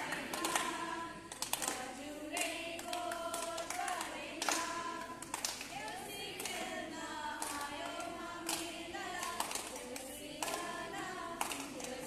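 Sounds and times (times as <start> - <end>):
girls singing together: 0.0 - 12.0
hands clapping: 0.0 - 12.0.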